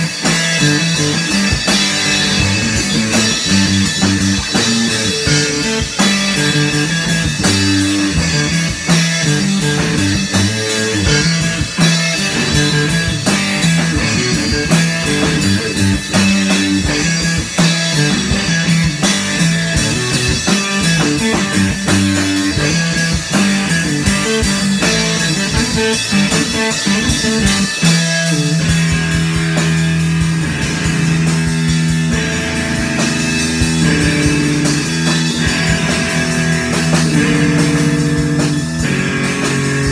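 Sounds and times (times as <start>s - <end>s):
drum kit: 0.0s - 39.9s
rock guitar: 0.0s - 39.9s.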